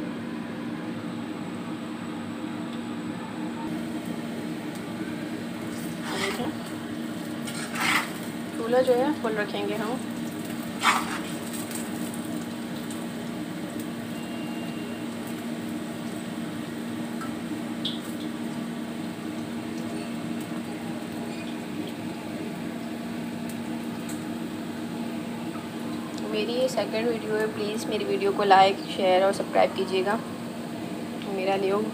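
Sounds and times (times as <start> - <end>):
fries sizzling in oil: 3.7 - 31.9.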